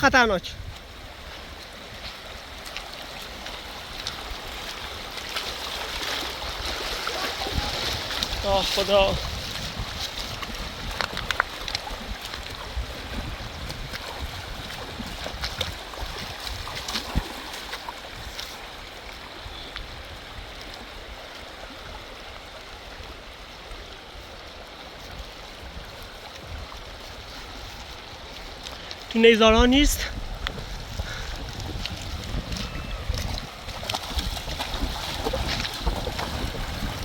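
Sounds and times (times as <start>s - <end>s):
rushing river water: 0.0s - 37.0s.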